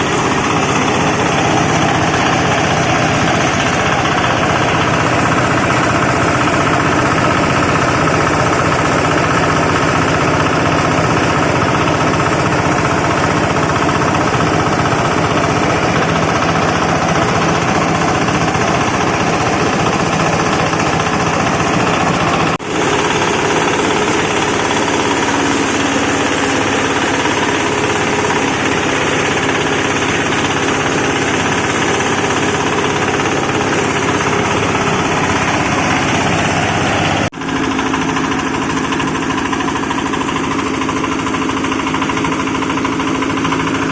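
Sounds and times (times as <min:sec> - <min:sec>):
wood-shaving machine clattering: 0:00.0 - 0:43.9.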